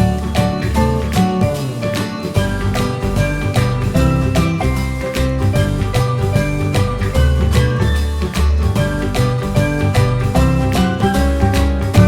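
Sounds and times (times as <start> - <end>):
upbeat music with plucked strings: 0.0 - 12.0.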